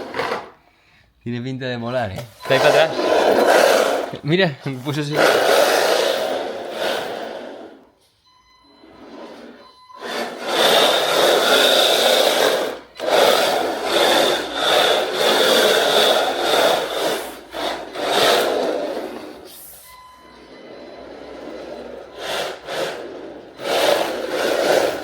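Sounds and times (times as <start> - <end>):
tyres scrubbing and sliding: 2.2 - 8.0, 8.8 - 25.0
rc car motor whine: 2.4 - 4.2, 4.9 - 7.9, 8.8 - 25.0.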